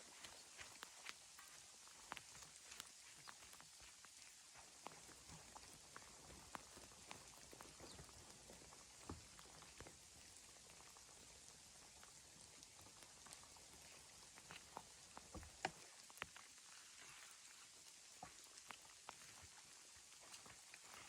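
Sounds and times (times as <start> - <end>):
faint small ticks and clicks: 0.0 - 21.0.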